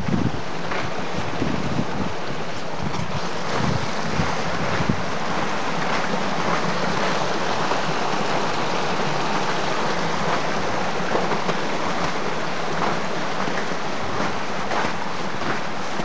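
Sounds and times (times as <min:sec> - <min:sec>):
brook rushing over rocks: 0:00.0 - 0:16.0.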